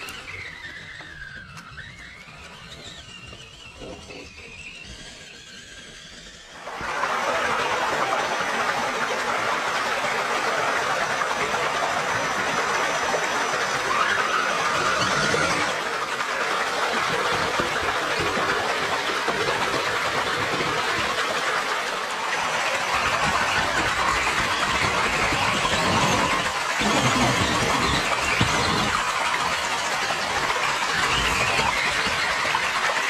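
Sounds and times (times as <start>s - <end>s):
small waterfall rushing: 0.0s - 4.2s, 6.5s - 33.0s.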